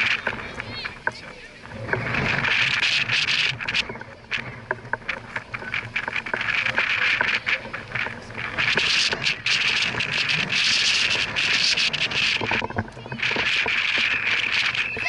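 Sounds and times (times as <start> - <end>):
distant voices calling out: 0.0 - 15.0
gusty wind on microphone: 0.0 - 15.0.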